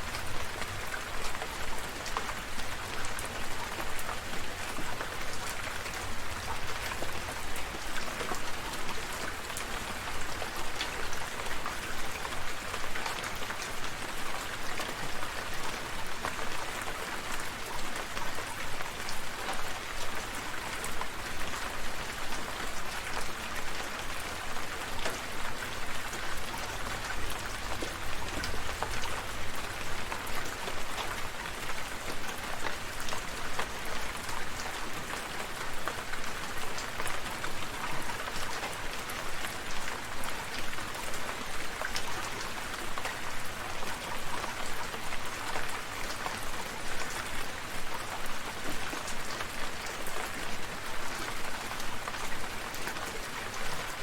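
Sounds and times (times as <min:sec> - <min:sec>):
rain falling: 0:00.0 - 0:54.0
raindrops pattering on a surface: 0:00.0 - 0:54.0.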